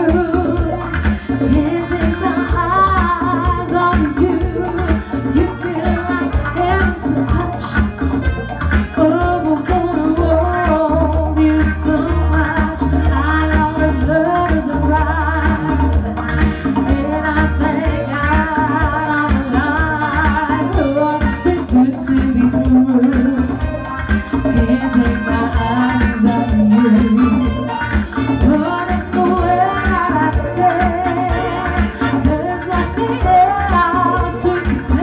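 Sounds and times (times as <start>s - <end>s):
bass line: 0.0s - 35.0s
electric guitar: 0.0s - 35.0s
keyboard: 0.0s - 35.0s
woman singing into a microphone: 0.0s - 35.0s.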